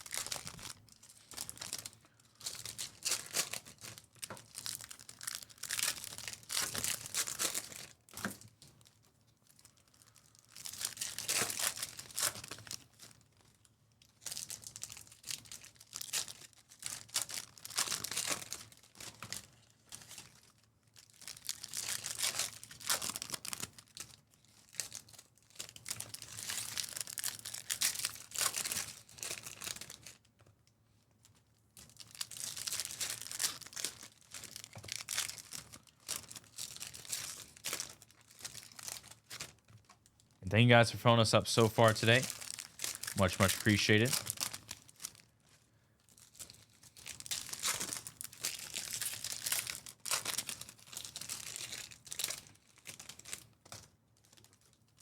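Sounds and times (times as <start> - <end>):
foil wrappers ripping and crinkling: 0.0 - 13.6, 14.2 - 30.2, 31.8 - 40.0, 42.3 - 55.0.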